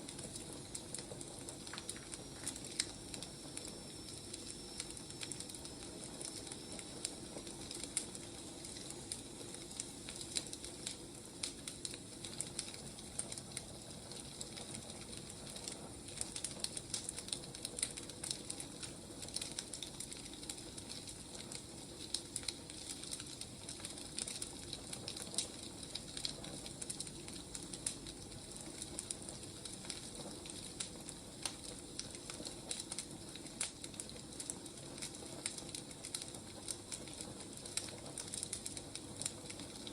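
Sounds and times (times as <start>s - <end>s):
firewood burning with crackles: 0.0s - 39.9s.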